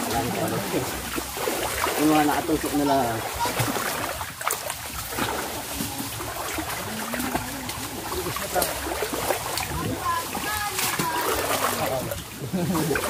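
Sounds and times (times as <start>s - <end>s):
river water running: 0.0s - 13.0s
small splashes and knocks: 0.0s - 13.0s.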